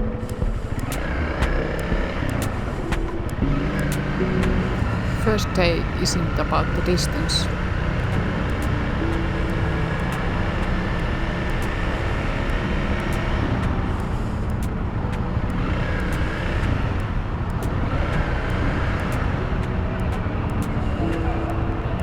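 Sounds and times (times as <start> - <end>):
road noise: 0.2 - 22.0.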